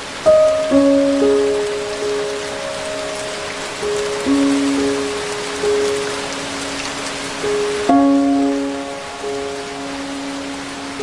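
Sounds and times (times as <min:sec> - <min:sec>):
heavy rain falling: 0:00.0 - 0:11.0
slow instrumental music: 0:00.2 - 0:11.0.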